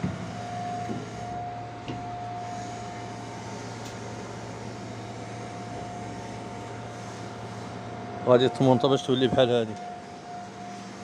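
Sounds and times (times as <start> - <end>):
mechanical hum and hiss: 0.0 - 11.0
thin steady whine: 0.0 - 11.0.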